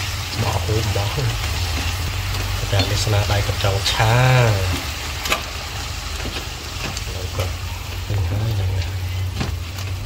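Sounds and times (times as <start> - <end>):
shrimp sizzling in a pan: 0.0 - 10.0.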